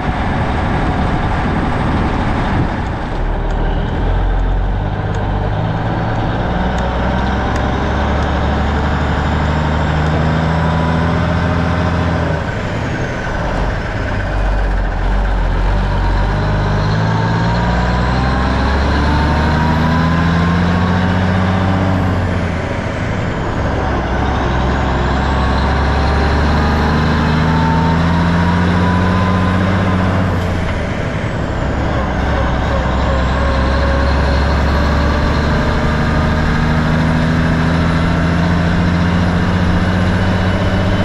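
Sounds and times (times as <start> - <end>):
diesel truck engine accelerating: 0.0 - 41.0.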